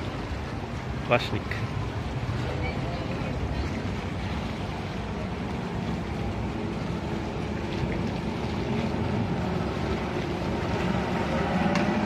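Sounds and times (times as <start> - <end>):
outboard motors running: 0.0 - 12.0
water wash: 0.0 - 12.0.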